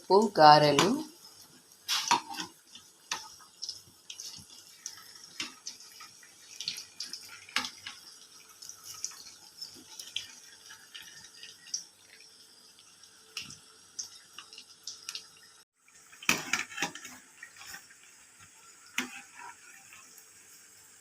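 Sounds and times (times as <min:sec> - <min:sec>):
water splashing in a sink: 0:02.0 - 0:19.1.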